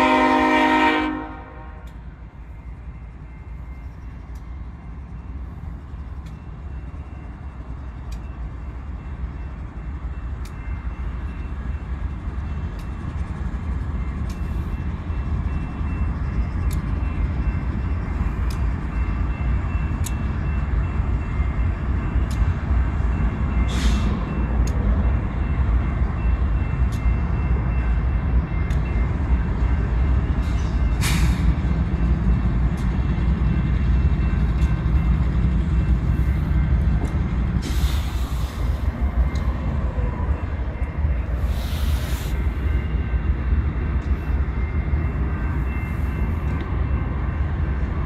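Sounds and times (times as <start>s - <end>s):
freight train rumbling past: 0.0s - 48.0s.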